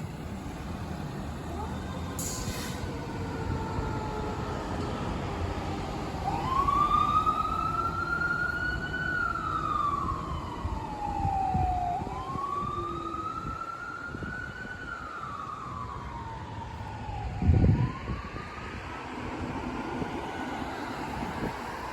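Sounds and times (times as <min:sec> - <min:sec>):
fire engine siren wailing: 0:00.1 - 0:21.9.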